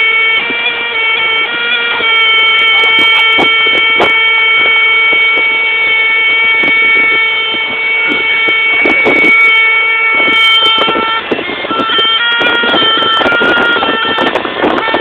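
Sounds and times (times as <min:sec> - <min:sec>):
continuous drone: 0:00.0 - 0:15.0
reed pipe playing held notes: 0:00.0 - 0:15.0.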